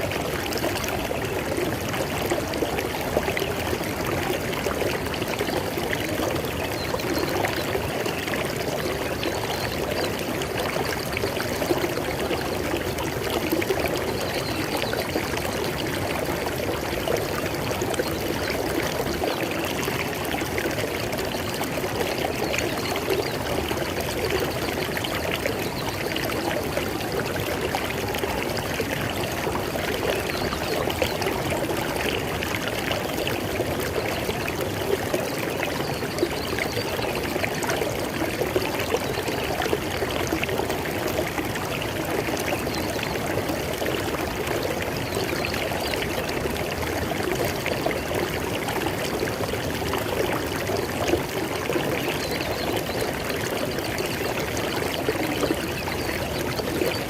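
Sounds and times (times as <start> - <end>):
river water flowing over rocks: 0.0 - 57.0.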